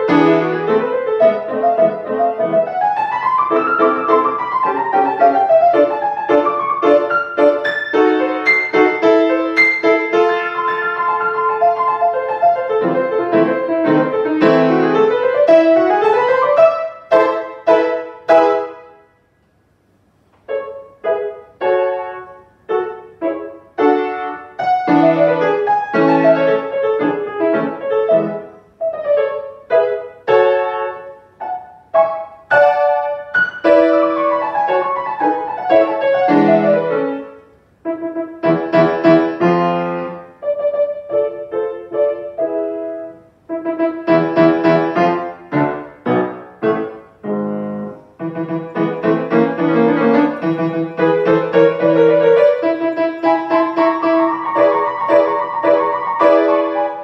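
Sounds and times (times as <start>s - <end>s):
grand piano playing: 0.0s - 19.2s, 20.4s - 57.0s.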